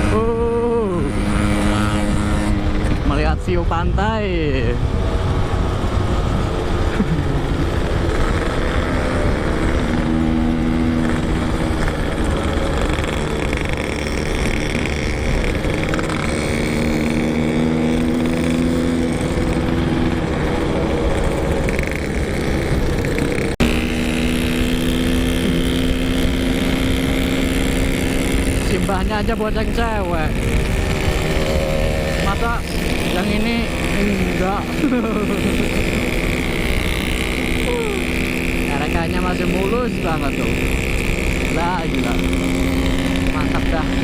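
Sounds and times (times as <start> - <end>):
wind rumble: 0.0 - 38.7
motorcycle engine running: 0.0 - 44.0.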